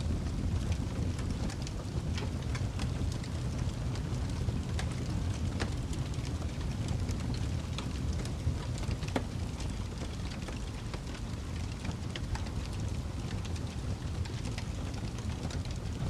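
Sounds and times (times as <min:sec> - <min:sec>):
fire roaring: 0:00.0 - 0:16.0
wood fire crackling and popping: 0:00.0 - 0:16.0.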